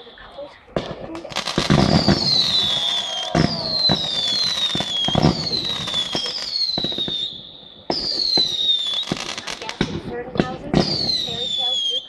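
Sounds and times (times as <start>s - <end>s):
fireworks cracking and popping: 0.0s - 12.0s
fireworks whistling: 0.0s - 12.0s.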